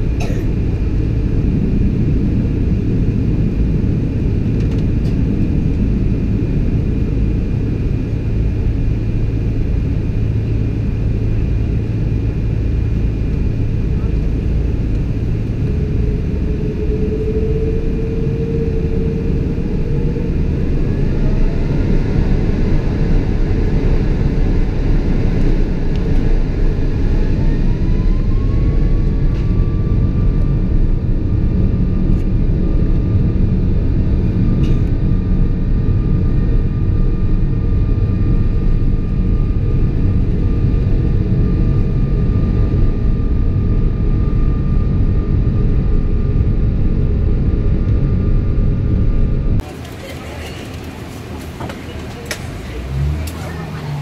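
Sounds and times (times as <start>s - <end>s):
aircraft cabin rumble: 0.0s - 54.0s
engine whine: 0.0s - 54.0s.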